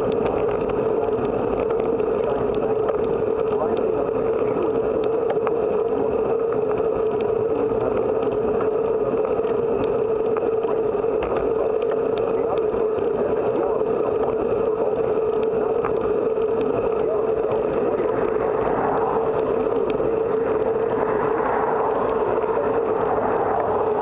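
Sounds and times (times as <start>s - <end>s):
steady hum: 0.0s - 24.0s
wind and road rush: 0.0s - 24.0s.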